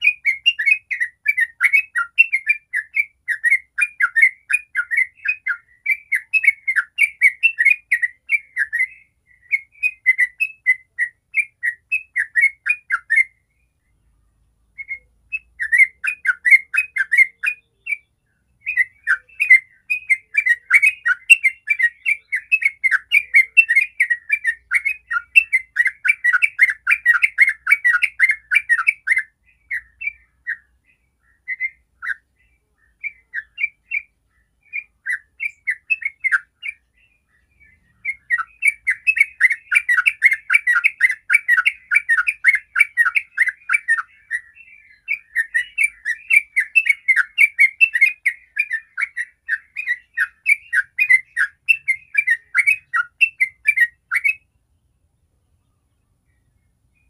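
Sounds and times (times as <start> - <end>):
bird chirping song: 0.0 - 57.0.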